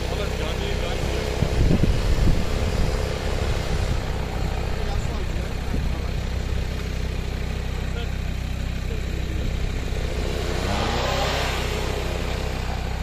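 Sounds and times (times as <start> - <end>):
engine droning and revving: 0.0 - 13.0.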